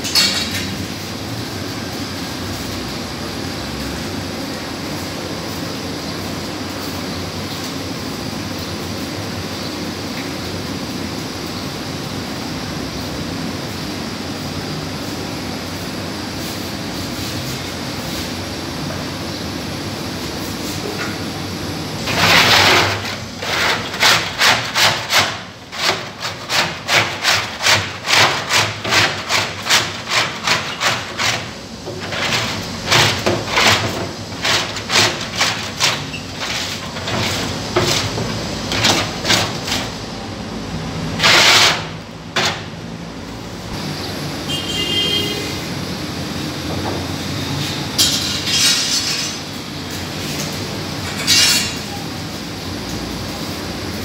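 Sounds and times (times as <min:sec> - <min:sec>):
steady background noise: 0:00.0 - 0:54.0.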